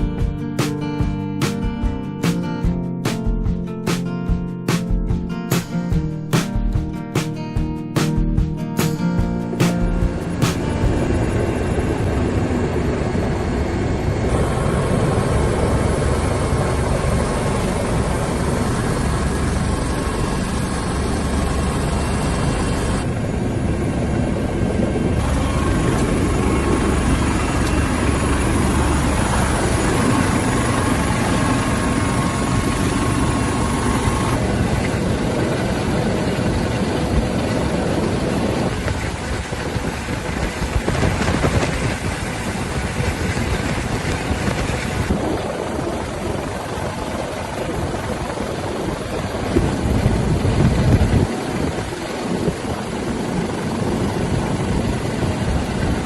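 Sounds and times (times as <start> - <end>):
helicopter engine and rotor: 9.2 - 56.0.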